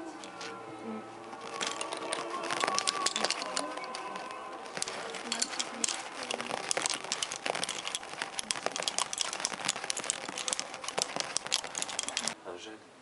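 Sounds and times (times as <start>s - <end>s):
wooden bobbins clicking: 1.4s - 12.4s.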